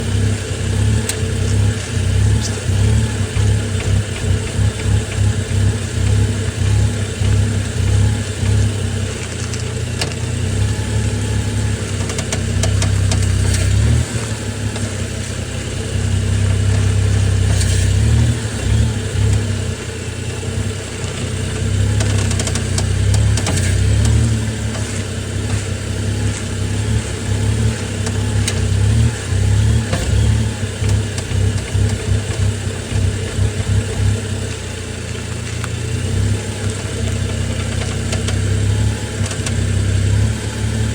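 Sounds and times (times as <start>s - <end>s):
car engine humming: 0.0s - 40.9s.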